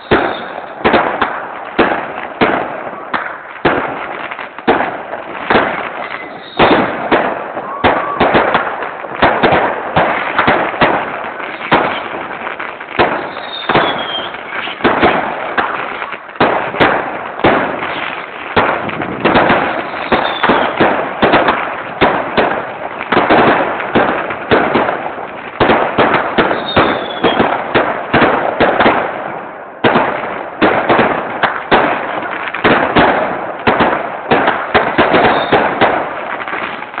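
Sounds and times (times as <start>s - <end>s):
fireworks falling whistles: 0.0s - 25.0s, 25.6s - 28.9s, 33.8s - 37.0s
fireworks bangs and crackles: 0.0s - 37.0s.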